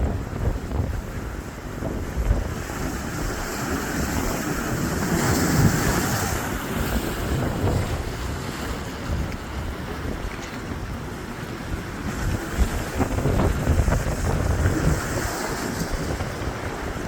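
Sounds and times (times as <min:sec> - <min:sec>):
surf breaking: 0:00.0 - 0:17.0
wind buffeting microphone: 0:00.0 - 0:17.0.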